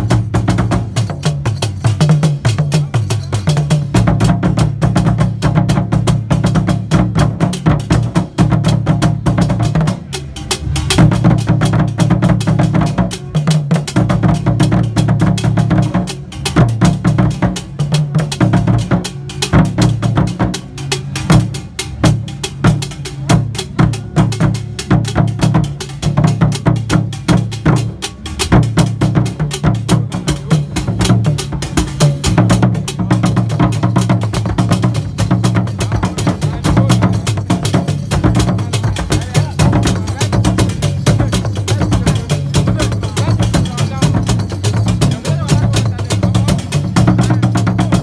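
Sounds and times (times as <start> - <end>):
large drums beaten in fast rhythm: 0.0 - 48.0.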